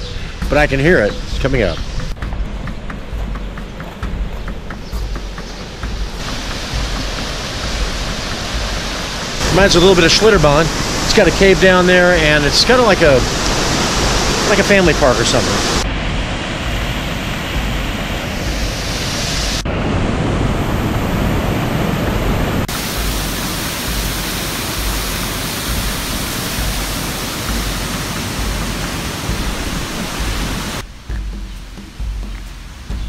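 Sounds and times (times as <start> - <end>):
waterfall rushing: 1.8 - 30.9.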